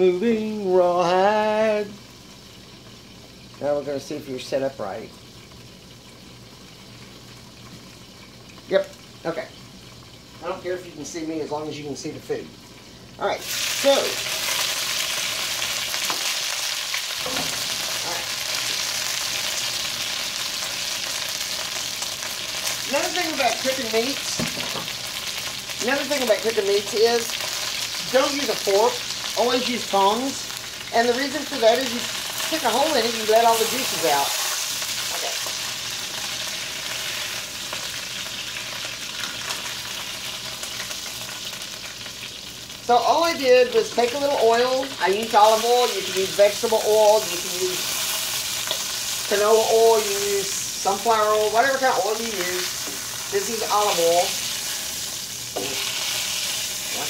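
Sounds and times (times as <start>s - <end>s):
chicken sizzling in oil: 0.0s - 57.0s.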